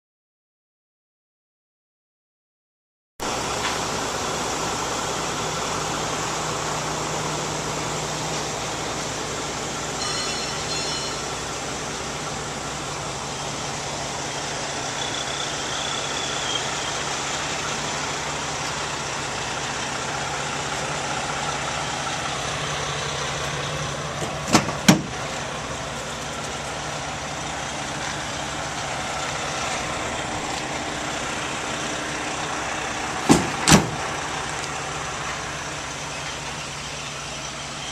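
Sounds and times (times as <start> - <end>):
outdoor background noise: 3.2 - 37.9
vehicle engine idling: 3.2 - 37.9.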